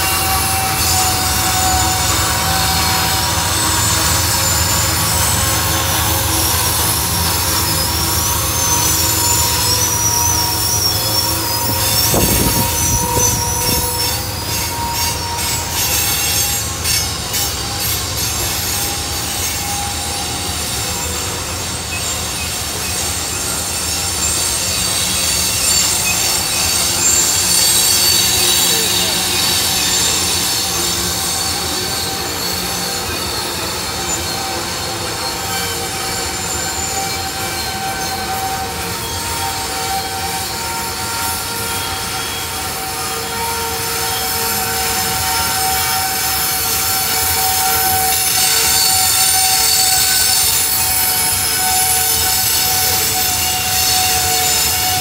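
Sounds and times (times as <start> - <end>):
low rumble of freight cars: 0.0 - 55.0
wheel flanges squealing: 0.0 - 55.0
wheels clicking on track: 0.0 - 55.0.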